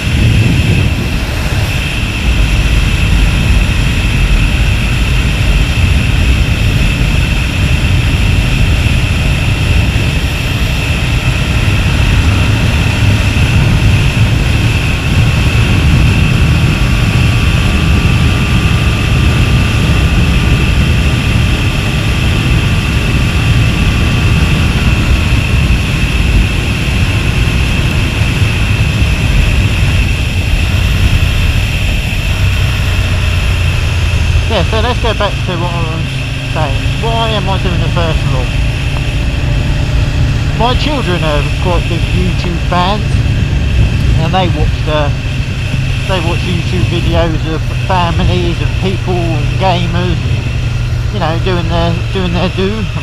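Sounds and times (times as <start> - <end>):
motorcycle engine drone: 0.0 - 53.0
wind rushing on microphone: 0.0 - 53.0.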